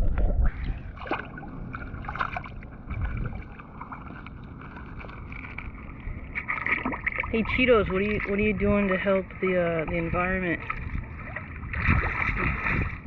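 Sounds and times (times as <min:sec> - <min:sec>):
water sloshing: 0:00.0 - 0:13.0
wind rumble on microphone: 0:00.0 - 0:13.0.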